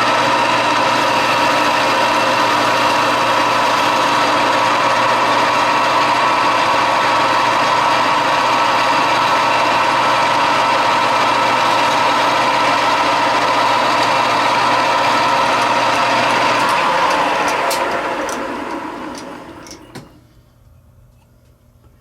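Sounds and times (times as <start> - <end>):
metal lathe whining: 0.0 - 20.2.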